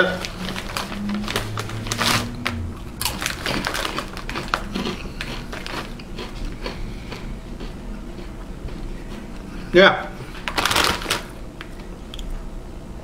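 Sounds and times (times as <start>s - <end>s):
tortilla chips being chewed: 0.0s - 12.4s.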